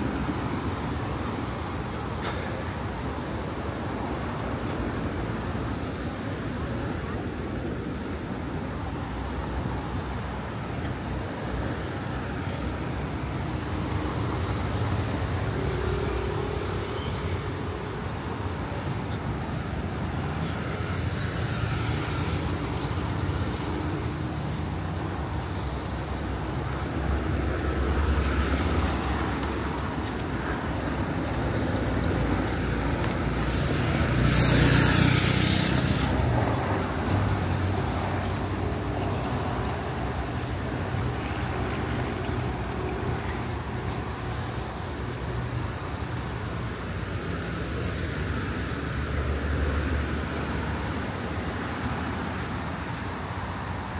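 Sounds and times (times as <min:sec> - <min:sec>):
street traffic: 0:00.0 - 0:53.9
vehicles passing: 0:00.0 - 0:53.9.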